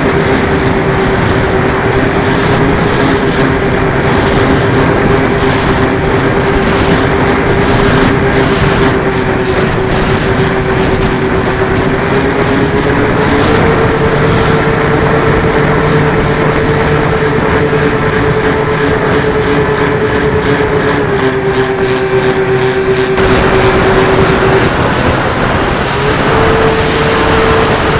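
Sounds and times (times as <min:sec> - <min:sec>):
motor whining: 0:00.0 - 0:27.9
wind noise: 0:00.0 - 0:27.9.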